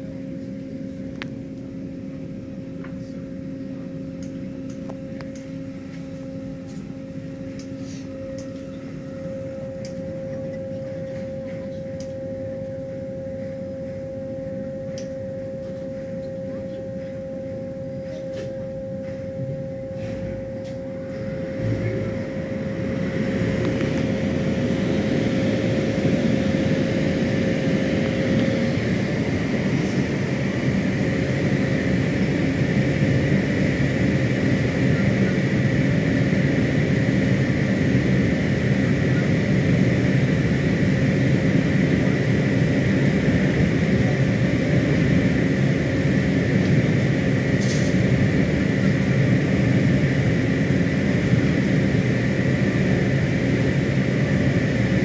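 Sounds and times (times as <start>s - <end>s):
car wash machinery hum: 0.0s - 55.0s.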